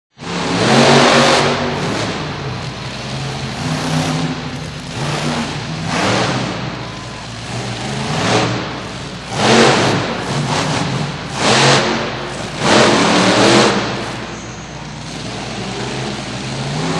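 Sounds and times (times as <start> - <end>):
truck engine revving hard: 0.2 - 16.9.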